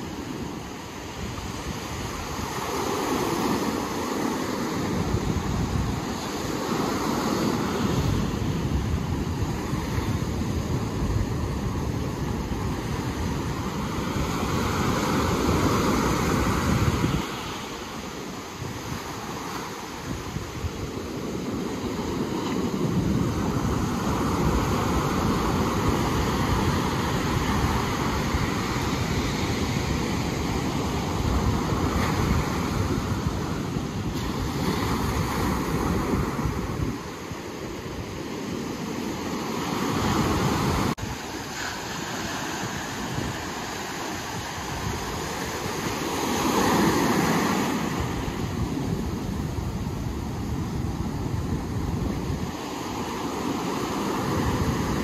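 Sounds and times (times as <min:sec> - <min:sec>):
ocean surf washing in: 0:00.0 - 0:55.0
wind buffeting microphone: 0:00.0 - 0:55.0.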